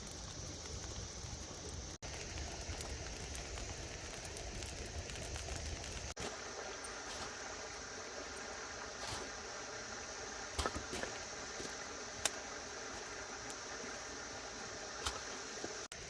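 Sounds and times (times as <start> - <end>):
campfire popping and cracking: 0.0 - 16.0.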